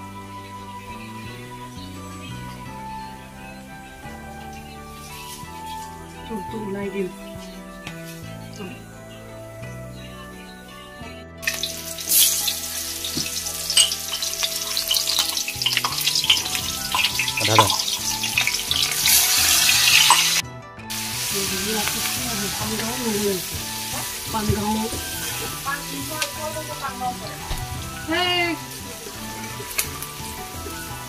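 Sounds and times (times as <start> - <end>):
oil sizzling in a wok: 0.0 - 6.5, 11.4 - 31.0.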